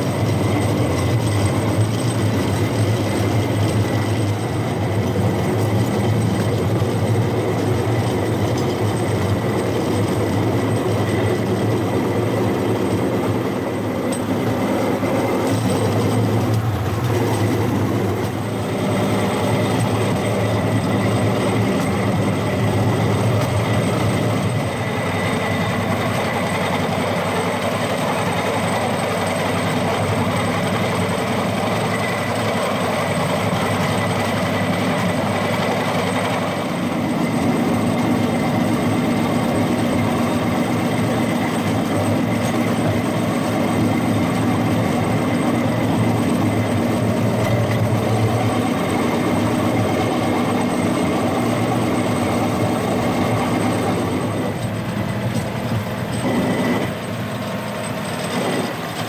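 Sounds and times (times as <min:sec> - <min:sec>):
cart engine running: 0:00.0 - 0:59.0
wheels running on rail track: 0:00.0 - 0:59.0.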